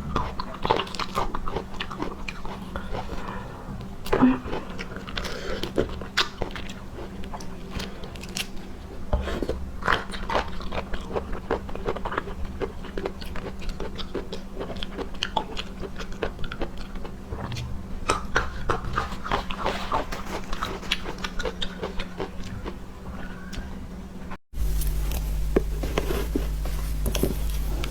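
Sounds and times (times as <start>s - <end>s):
chewing crunchy food: 0.0s - 23.8s, 24.6s - 27.9s.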